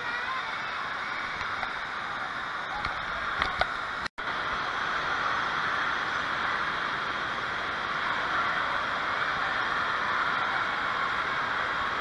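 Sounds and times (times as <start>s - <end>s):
crowd noise: 0.0s - 12.0s
rushing water: 0.0s - 12.0s.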